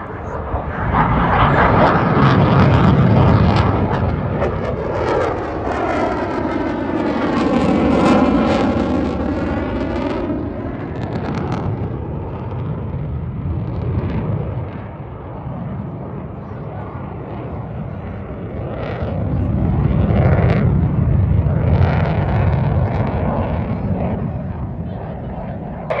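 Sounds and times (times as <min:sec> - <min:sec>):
airplane flying past: 0:00.0 - 0:26.0.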